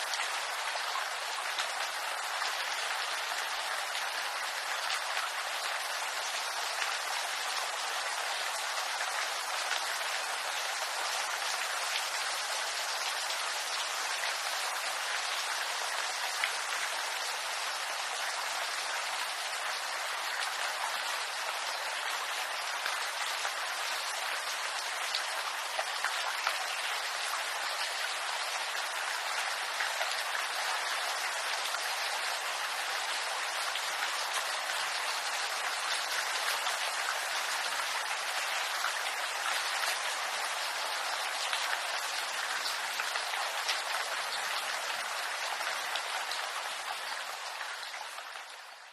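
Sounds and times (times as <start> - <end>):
rain on bamboo leaves: 0.0 - 48.9.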